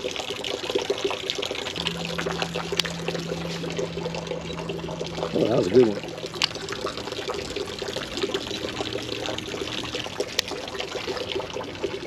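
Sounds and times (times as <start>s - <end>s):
creek water trickling: 0.0s - 12.0s.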